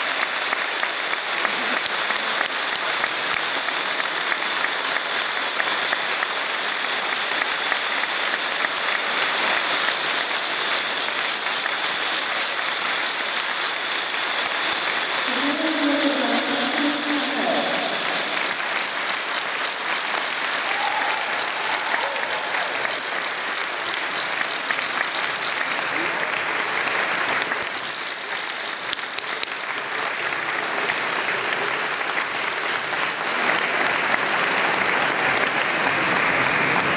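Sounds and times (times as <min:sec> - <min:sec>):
audience clapping: 0:00.0 - 0:36.9.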